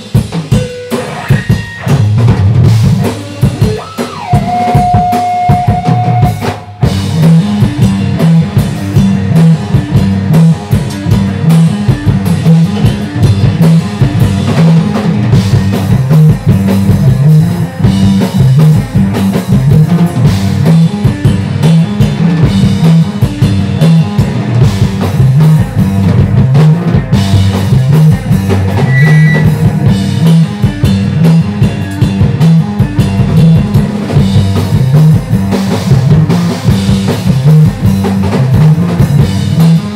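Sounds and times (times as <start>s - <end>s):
drum kit: 0.0s - 39.9s
electric guitar: 0.0s - 39.9s
loud rock band playing: 0.0s - 39.9s.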